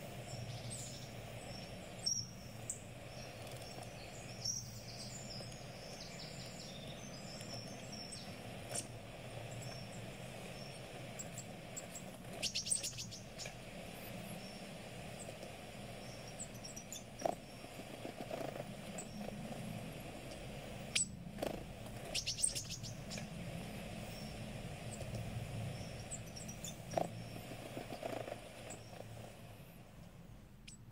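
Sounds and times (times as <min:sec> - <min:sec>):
birds chirping: 0:00.0 - 0:30.9
steady low hum: 0:00.0 - 0:30.9.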